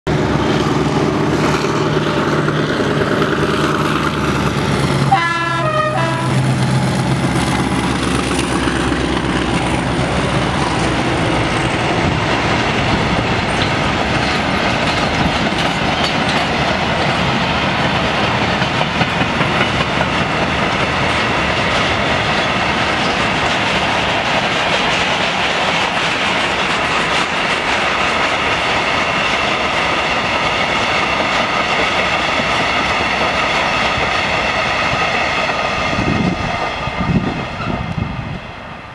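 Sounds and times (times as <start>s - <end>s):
diesel locomotive engine: 0.1s - 38.9s
train wheels rumbling on rail: 0.1s - 38.9s
clickety-clack over rail joints: 0.2s - 38.5s.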